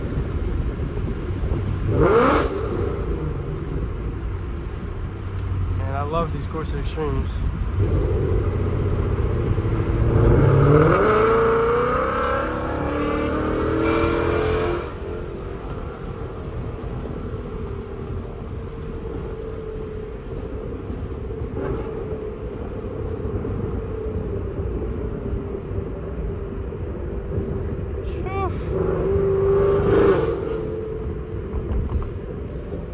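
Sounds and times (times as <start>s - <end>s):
car engine accelerating hard: 0.0s - 32.9s
exhaust cruising drone: 0.0s - 32.9s.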